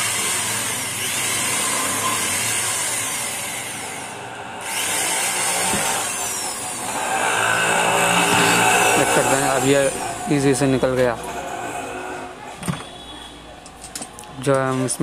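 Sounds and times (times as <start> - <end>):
electric drill boring metal: 0.0 - 12.4.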